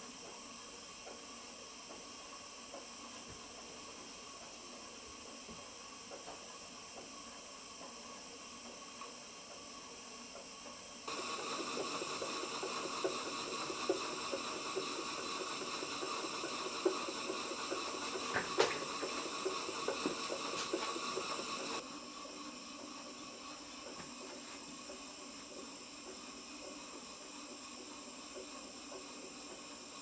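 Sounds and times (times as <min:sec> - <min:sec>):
steam and burners hissing: 0:00.0 - 0:30.0.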